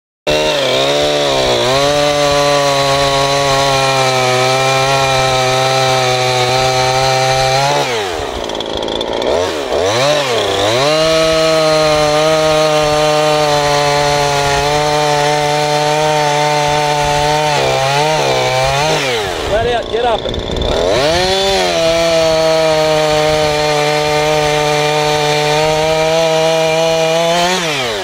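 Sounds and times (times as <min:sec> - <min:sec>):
chainsaw cutting log: 0:00.3 - 0:28.0.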